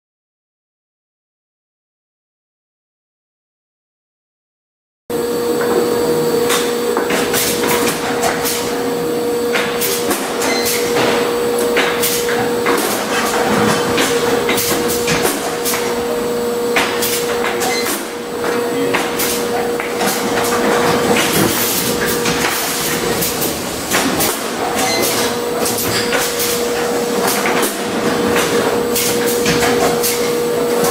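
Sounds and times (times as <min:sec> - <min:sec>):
packing machine hum: 0:05.1 - 0:30.9.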